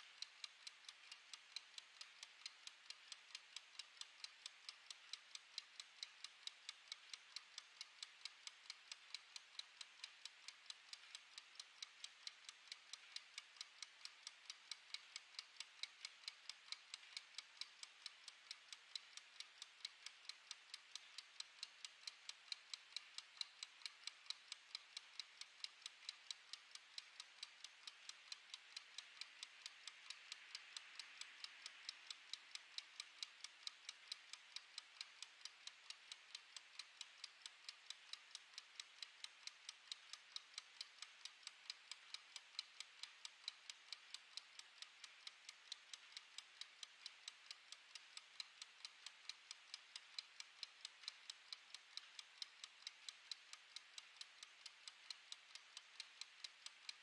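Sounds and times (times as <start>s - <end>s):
kitchen timer ticking: 0.0s - 57.0s.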